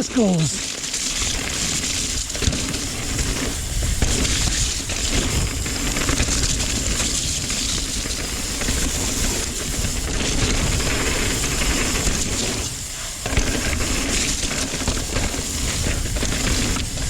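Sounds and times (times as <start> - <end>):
bike tyre noise: 0.0 - 17.0
bike rattling and knocking: 0.6 - 17.0
wind rumble on microphone: 2.0 - 17.0.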